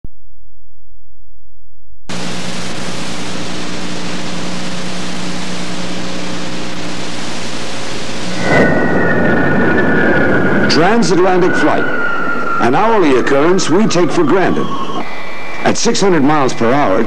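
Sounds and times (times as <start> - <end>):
jet engines whining: 2.1 - 17.0
steady low hum: 2.1 - 17.0
tape hiss: 2.1 - 17.0.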